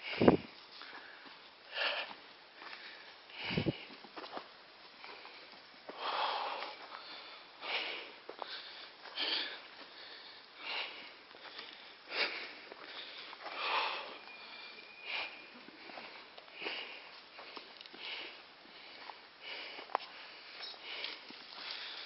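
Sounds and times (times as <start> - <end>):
person breathing hard: 0.0 - 4.0, 5.0 - 22.0.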